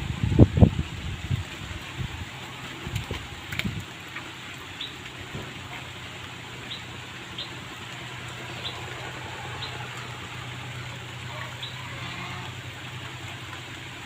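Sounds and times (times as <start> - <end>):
low hum: 1.4 - 14.0.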